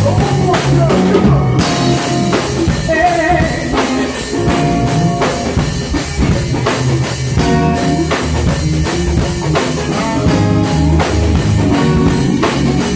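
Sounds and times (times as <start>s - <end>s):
drums: 0.0s - 12.9s
electric guitar: 0.0s - 12.9s.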